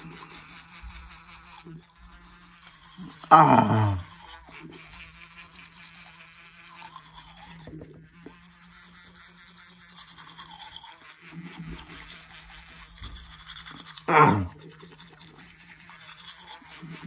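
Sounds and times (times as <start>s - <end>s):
electric toothbrush buzzing: 0.0s - 17.0s.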